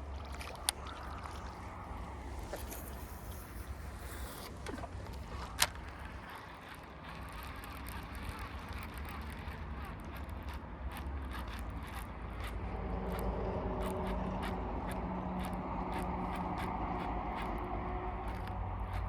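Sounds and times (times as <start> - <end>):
fishing reel whirring and clicking: 0.0 - 19.0.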